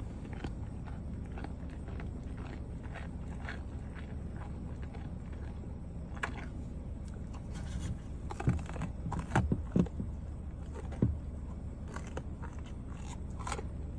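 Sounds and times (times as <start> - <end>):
deer crunching carrot: 0.0 - 13.9
steady low hum: 0.0 - 13.9.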